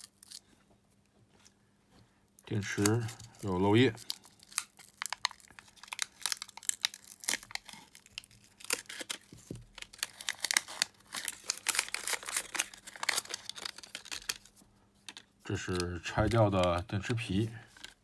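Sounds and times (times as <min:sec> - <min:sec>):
plastic wrapper crinkling and tearing: 0:00.0 - 0:00.5, 0:02.5 - 0:18.0.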